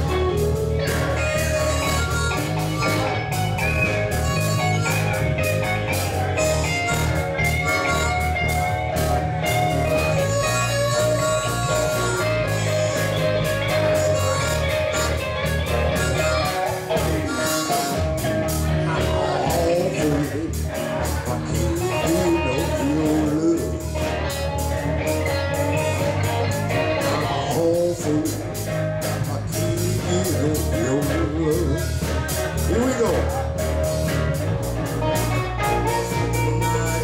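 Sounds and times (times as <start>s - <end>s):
blues-rock band playing: 0.0s - 37.0s
harmonica bending notes: 0.0s - 37.0s.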